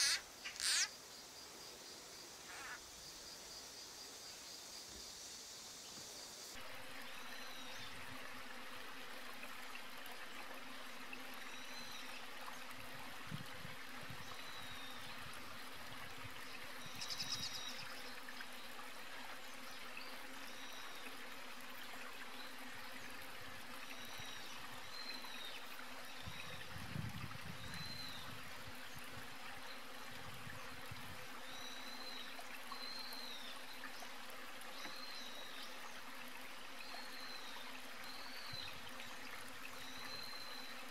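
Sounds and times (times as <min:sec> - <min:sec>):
even outdoor hiss: 0:00.0 - 0:40.9.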